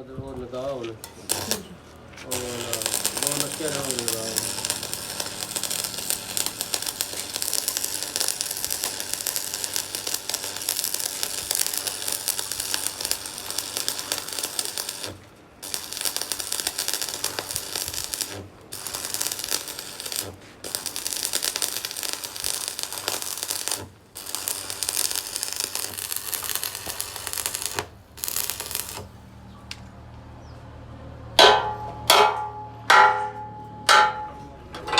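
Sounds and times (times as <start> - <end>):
arc welding crackling sizzle: 1.0 - 29.2.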